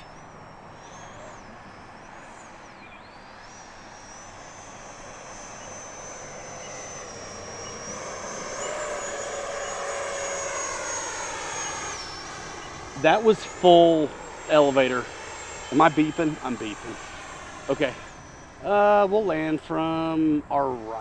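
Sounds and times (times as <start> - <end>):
electric ducted fan whine: 0.0 - 21.0.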